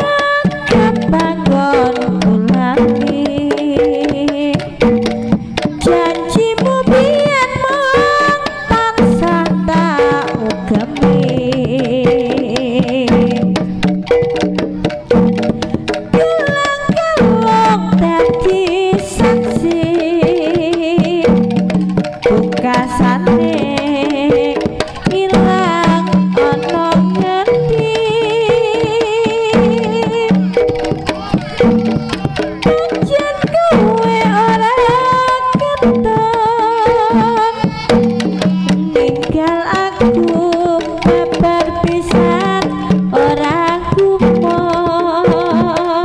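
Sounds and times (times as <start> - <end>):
hand drums: 0.0 - 46.0
wavering melody line: 0.0 - 46.0.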